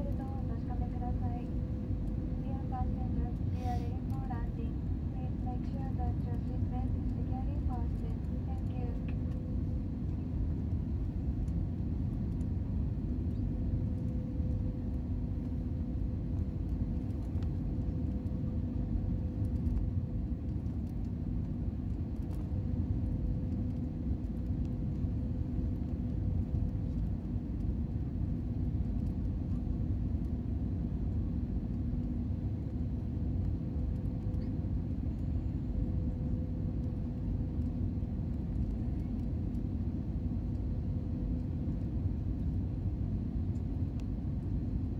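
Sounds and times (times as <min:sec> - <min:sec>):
airplane cabin engine rumble: 0:00.0 - 0:44.9
faint steady hum: 0:00.0 - 0:44.9.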